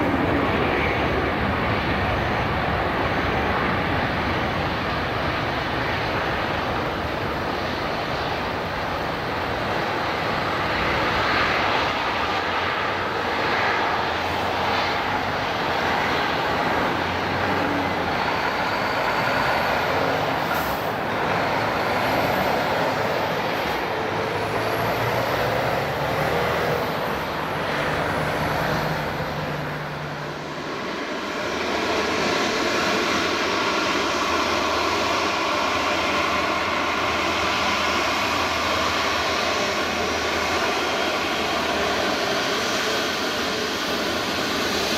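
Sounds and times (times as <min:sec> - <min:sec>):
jet airliner engines: 0:00.0 - 0:44.9.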